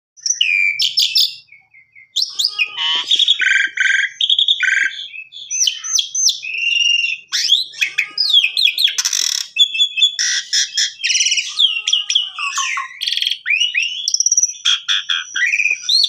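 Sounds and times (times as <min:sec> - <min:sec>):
starling singing: 0:00.2 - 0:16.0.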